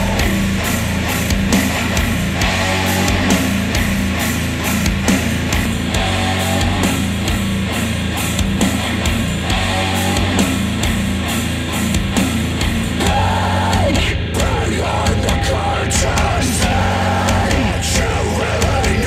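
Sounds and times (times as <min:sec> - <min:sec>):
heavy rock song over speakers: 0:00.0 - 0:19.0.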